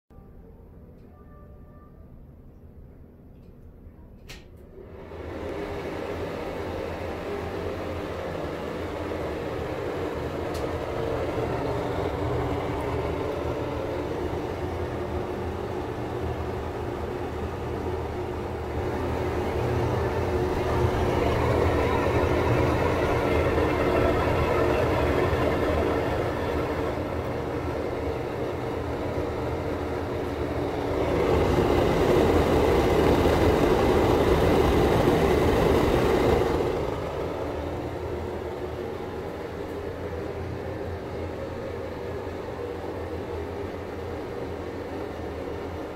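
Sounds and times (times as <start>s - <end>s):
exhaust fan motor hum: 4.2s - 45.9s
air rushing through blower: 4.8s - 45.9s.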